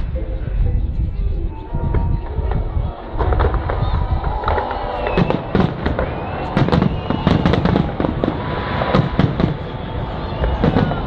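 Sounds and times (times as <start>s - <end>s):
fireworks bangs and crackles: 1.9s - 11.0s.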